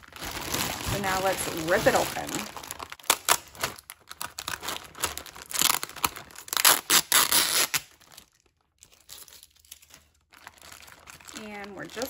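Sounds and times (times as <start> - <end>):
plastic bag ripping open: 0.0 - 12.0
plastic crinkling: 0.0 - 12.0.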